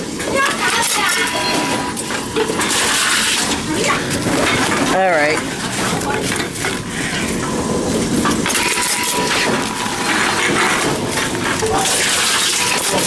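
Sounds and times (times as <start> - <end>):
bottles and cans clattering: 0.0 - 13.0
vending machine mechanical noise: 0.0 - 13.0.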